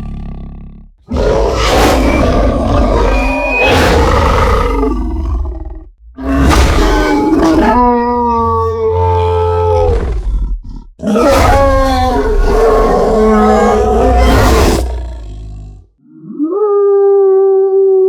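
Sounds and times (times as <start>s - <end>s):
deep monster roars: 0.0s - 15.9s.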